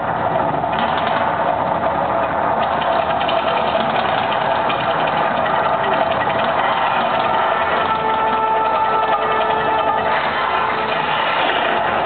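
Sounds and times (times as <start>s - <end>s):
fire effects rushing and crackling: 0.0s - 12.0s.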